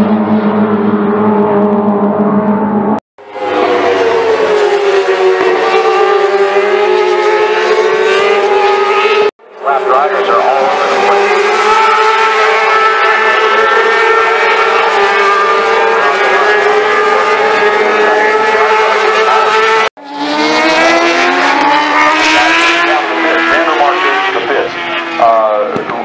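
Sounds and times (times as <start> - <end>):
engine accelerating hard: 0.0 - 26.0
motorcycle engine at high revs: 3.3 - 9.3, 10.1 - 26.0.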